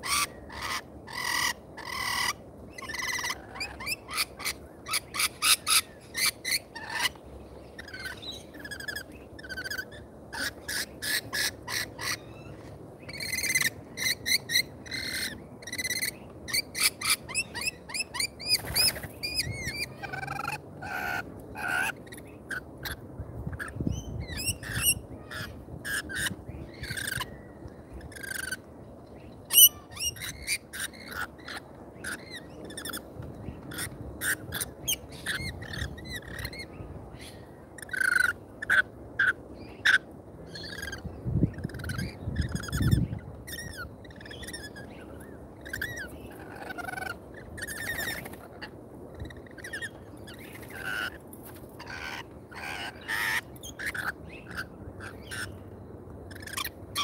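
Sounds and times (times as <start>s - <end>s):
lorikeets screeching: 0.0s - 28.7s, 29.4s - 57.0s.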